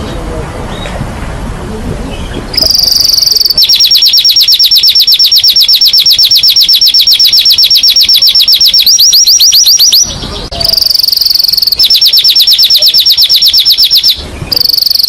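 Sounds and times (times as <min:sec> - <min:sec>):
canary singing trills: 0:02.1 - 0:15.0.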